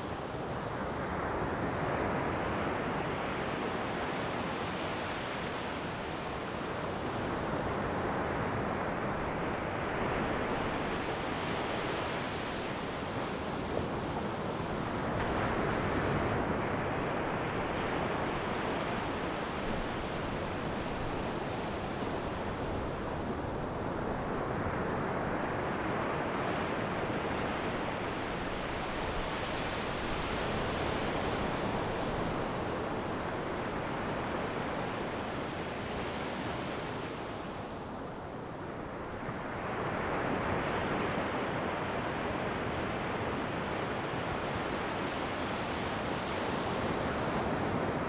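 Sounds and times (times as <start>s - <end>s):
ocean waves washing onto shore: 0.0s - 48.0s.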